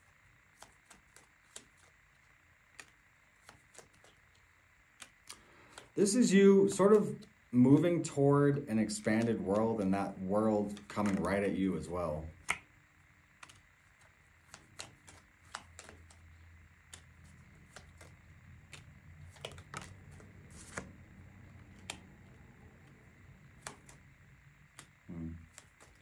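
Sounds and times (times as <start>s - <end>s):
cards being shuffled: 0.0s - 7.9s, 8.8s - 12.7s, 13.3s - 26.0s
faint low hum: 0.0s - 26.0s.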